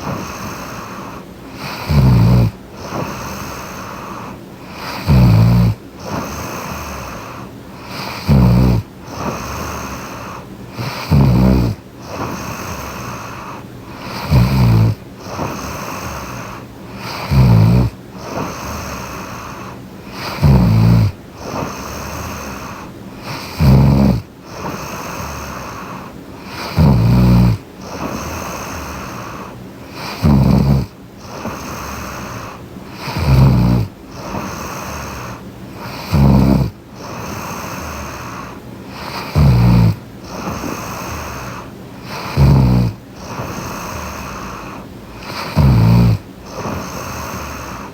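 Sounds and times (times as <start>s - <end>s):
soft breathing: 0.0s - 47.9s
woman snoring: 0.0s - 47.9s.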